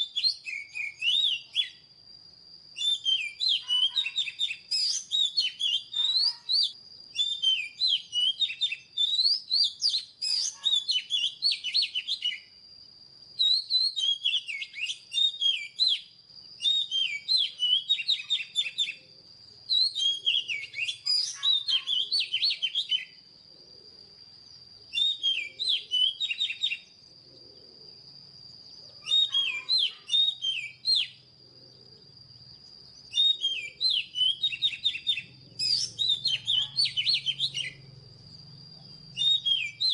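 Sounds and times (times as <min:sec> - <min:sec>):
bird singing whistles and chirps: 0:00.0 - 0:02.0, 0:02.6 - 0:23.4, 0:24.2 - 0:27.3, 0:28.0 - 0:39.9.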